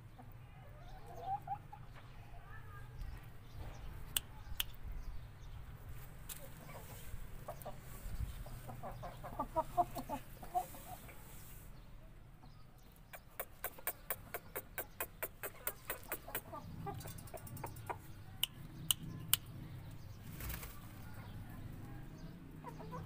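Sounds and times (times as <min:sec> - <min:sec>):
chickens clucking: 0:00.0 - 0:02.2, 0:05.8 - 0:23.0.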